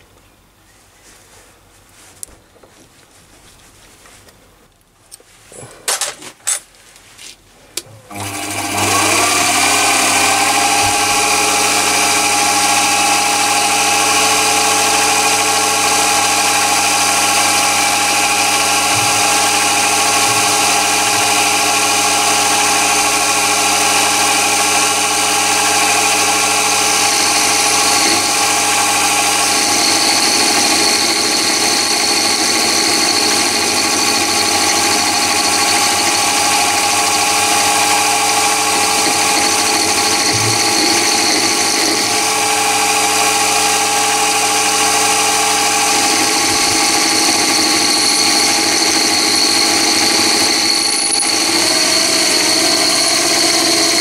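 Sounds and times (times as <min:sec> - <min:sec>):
higher whine: 0:08.0 - 0:54.0
lathe motor whine: 0:08.1 - 0:54.0.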